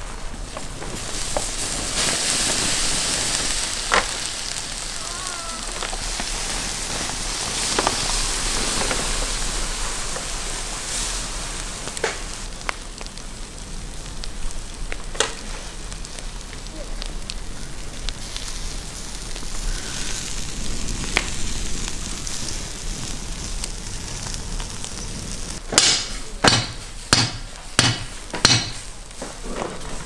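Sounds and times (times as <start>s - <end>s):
embers hissing and crackling: 0.0s - 30.0s
liquid sizzling on hot coals: 0.0s - 30.0s
sharp pops from fire: 0.0s - 30.0s.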